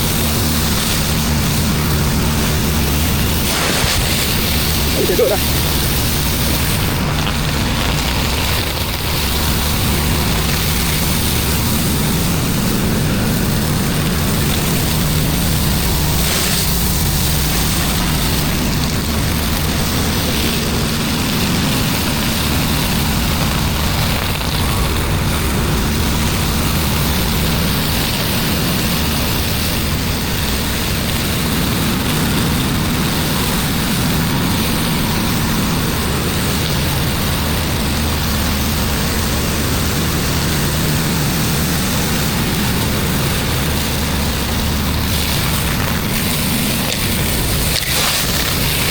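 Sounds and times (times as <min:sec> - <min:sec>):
hiss of water spray: 0:00.0 - 0:48.9
pressure washer engine running: 0:00.0 - 0:48.9.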